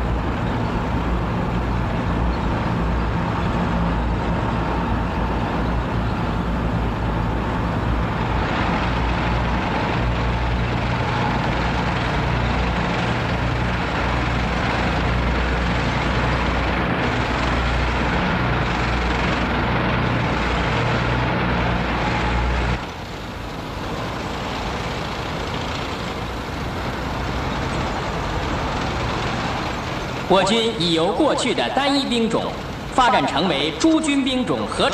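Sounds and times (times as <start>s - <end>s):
heavy vehicle engines rumbling: 0.0s - 34.9s.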